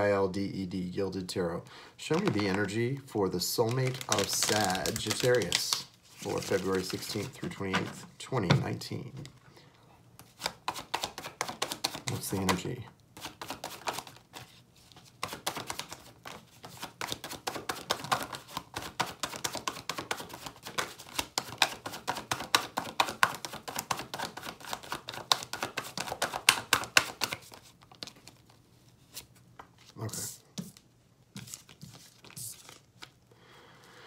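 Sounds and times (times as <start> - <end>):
cards being shuffled: 2.1 - 2.8, 3.5 - 7.9, 10.2 - 33.2.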